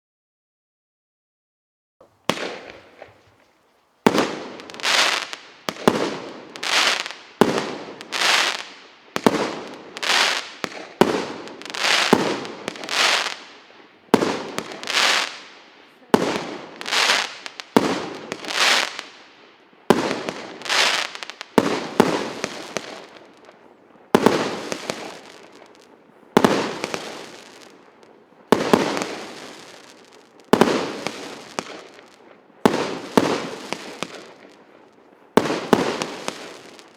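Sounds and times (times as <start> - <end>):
firework shots bursting: 2.0 - 3.5, 4.1 - 23.6, 24.2 - 34.6, 35.4 - 36.9.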